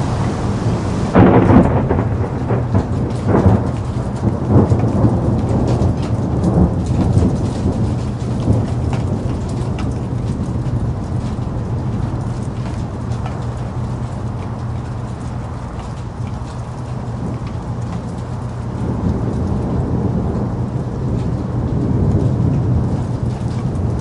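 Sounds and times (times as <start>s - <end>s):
rain drop ticks: 0.0s - 24.0s
rain falling: 0.0s - 24.0s
rolling thunder: 0.0s - 24.0s.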